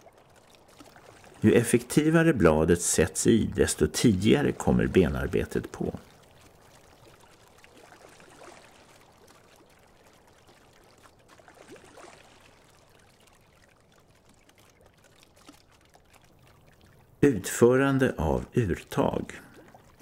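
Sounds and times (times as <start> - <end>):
oar blades splashing water: 0.0 - 17.9, 18.7 - 20.0.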